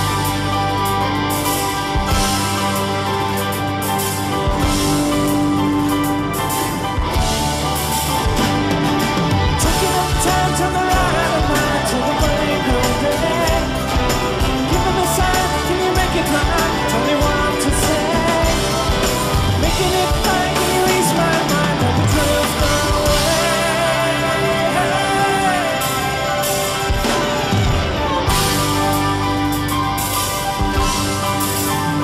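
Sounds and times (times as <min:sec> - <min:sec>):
rock song with singing: 0:00.0 - 0:32.0.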